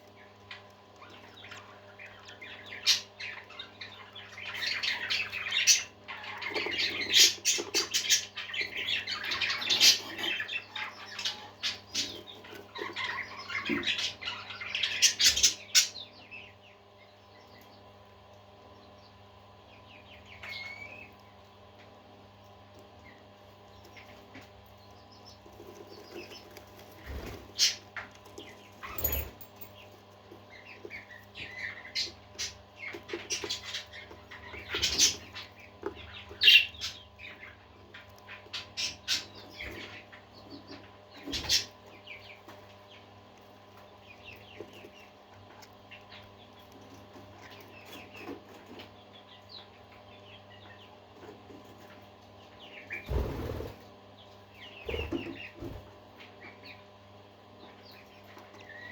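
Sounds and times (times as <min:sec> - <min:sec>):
parakeets chirping: 0:00.0 - 0:17.8, 0:18.7 - 0:21.4, 0:22.9 - 0:51.0, 0:51.7 - 0:56.9.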